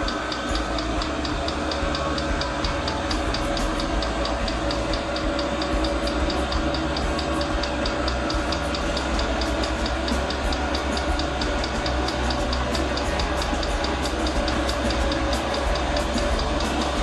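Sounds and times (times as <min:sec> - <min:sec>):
constant whine: 0:00.0 - 0:17.0
fuel pump ticking: 0:00.0 - 0:17.0.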